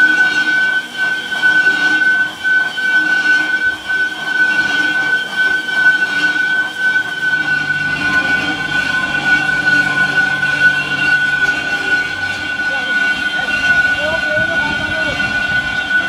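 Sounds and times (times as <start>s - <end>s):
high-pitched machine whine: 0.0s - 16.0s
rough mechanical noise: 0.0s - 16.0s.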